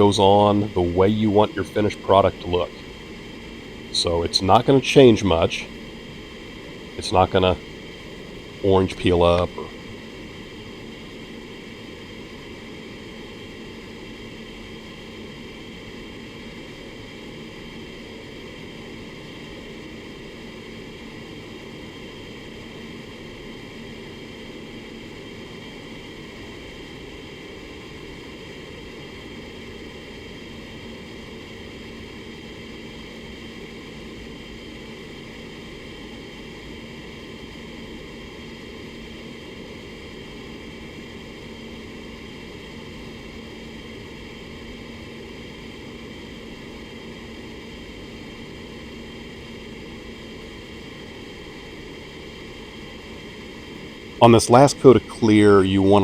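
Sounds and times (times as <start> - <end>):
constant low hum: 0.0 - 56.0.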